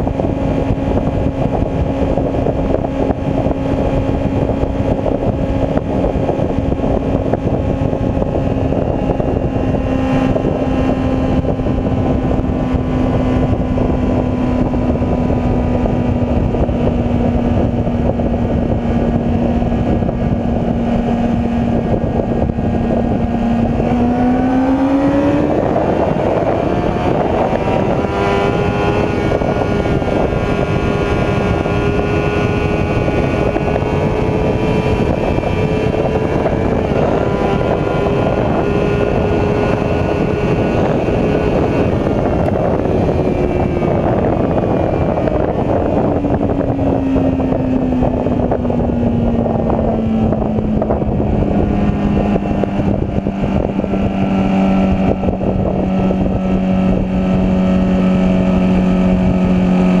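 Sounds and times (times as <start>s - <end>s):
motorcycle engine running: 0.0s - 60.0s
second motorcycle engine: 0.0s - 60.0s
wind rush: 0.0s - 60.0s.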